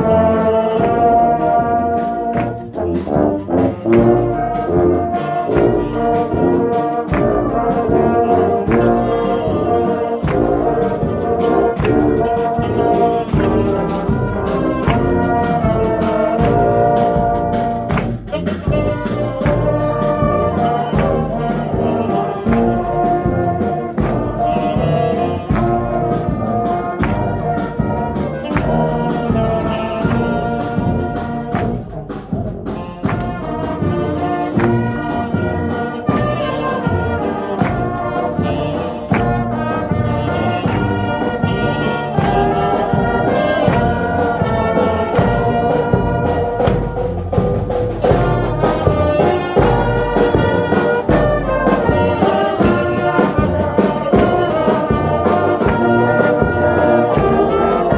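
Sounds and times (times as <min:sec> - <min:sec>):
instrumental music with steady beat: 0:00.0 - 0:57.9.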